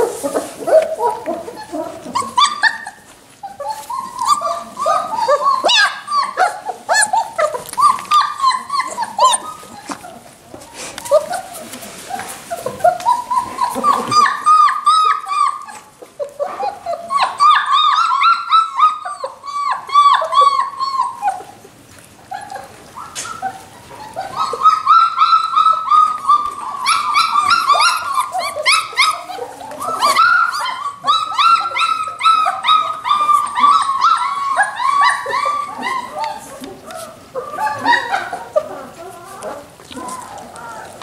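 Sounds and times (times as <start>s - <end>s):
puppies squealing and whimpering: 0.0s - 41.0s.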